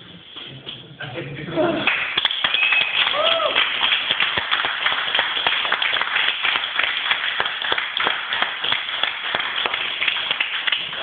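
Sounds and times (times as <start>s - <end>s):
people clapping: 1.8s - 11.0s.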